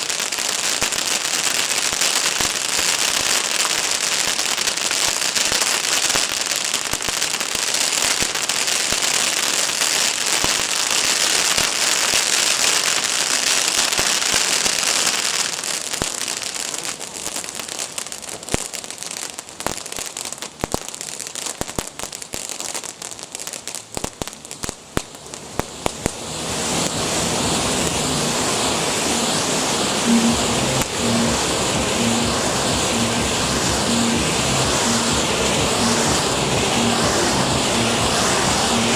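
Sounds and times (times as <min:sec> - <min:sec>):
rushing hiss: 0:00.0 - 0:19.1, 0:21.8 - 0:38.9
fireworks crackling and popping: 0:00.0 - 0:38.9.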